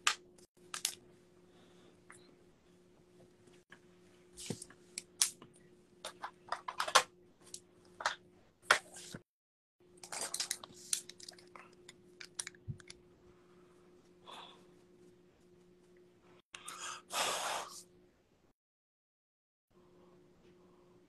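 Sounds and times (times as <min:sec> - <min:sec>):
faint electrical hum: 0:00.0 - 0:09.2, 0:09.8 - 0:18.5, 0:19.8 - 0:21.0.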